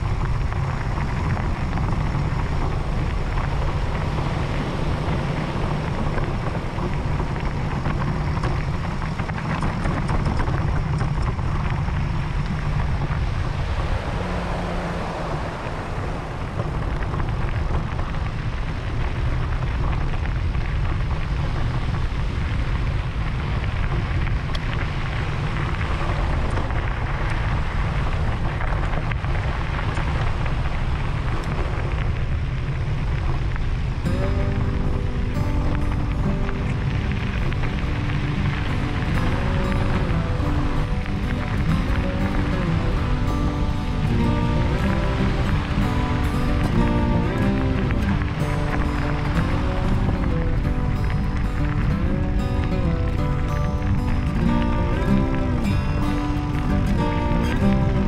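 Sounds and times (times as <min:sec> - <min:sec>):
bike tyres crunching on gravel: 0:00.0 - 0:58.0
wind buffeting microphone: 0:00.0 - 0:58.0.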